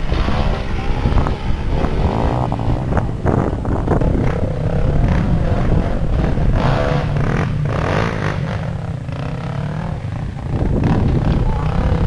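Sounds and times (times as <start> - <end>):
dirt bike engine revving: 0.0 - 12.0
dirt bike engines running: 0.0 - 12.0.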